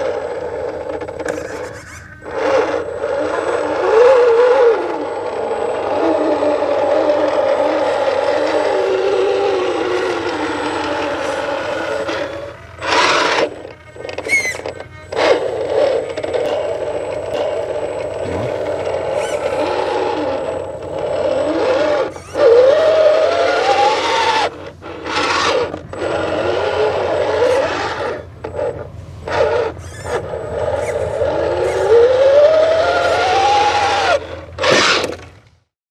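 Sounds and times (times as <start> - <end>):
electric motor whining: 0.0 - 35.4.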